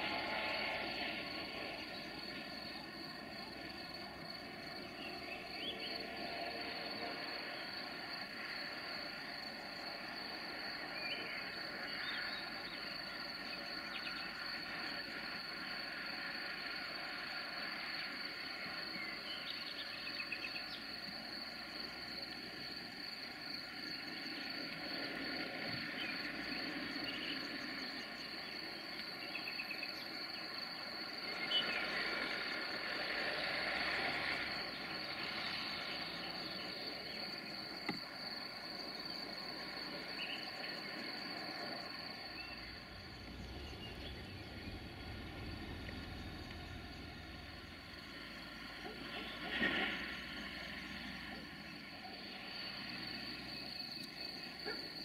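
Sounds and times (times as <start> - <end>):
crickets trilling: 0.0 - 55.0
short cricket chirps: 0.0 - 55.0.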